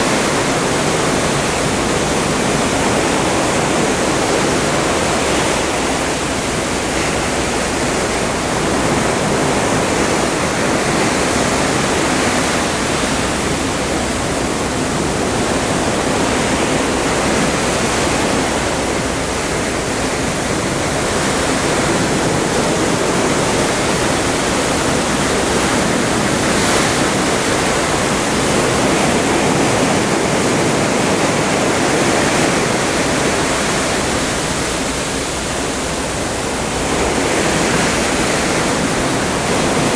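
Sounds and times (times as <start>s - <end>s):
water rushing along ship: 0.0s - 39.9s.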